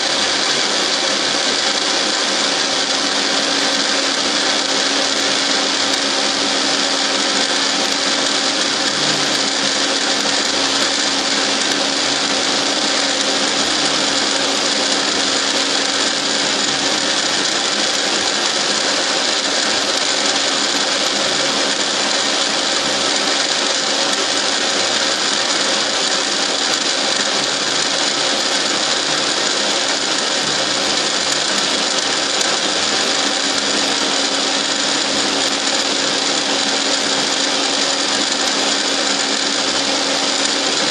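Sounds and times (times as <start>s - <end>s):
milling machine hum: 0.0s - 40.9s.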